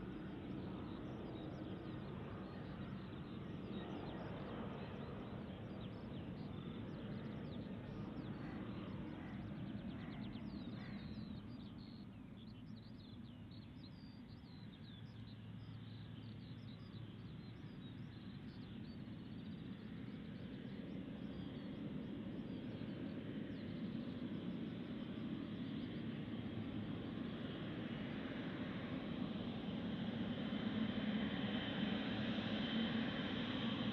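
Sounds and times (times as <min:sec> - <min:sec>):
distant jet engine rumble: 0:00.0 - 0:33.9
small birds chirping: 0:00.0 - 0:33.9.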